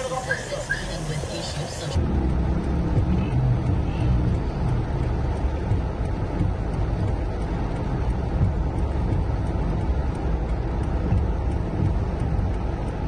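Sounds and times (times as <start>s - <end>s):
car engine and road noise: 0.0s - 13.0s
rain on car body: 0.0s - 13.0s.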